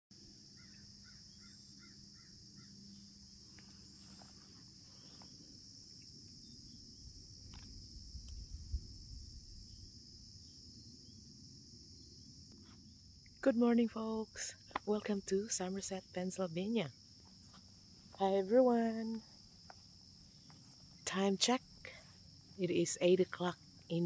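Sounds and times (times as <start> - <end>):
crickets chirping: 0.1 - 24.0.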